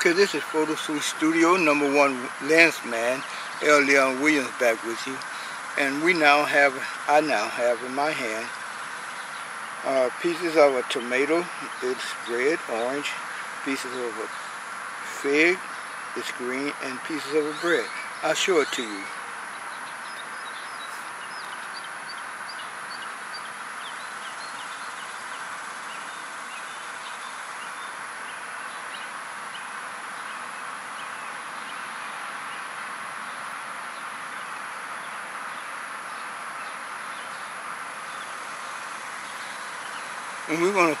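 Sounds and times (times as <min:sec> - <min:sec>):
small birds chirping: 0:00.0 - 0:41.0
steady background hiss: 0:00.0 - 0:41.0.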